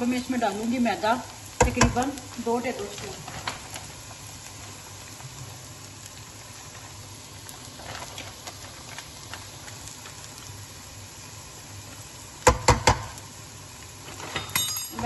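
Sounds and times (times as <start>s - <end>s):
onions sizzling in frying pan: 0.0s - 15.0s.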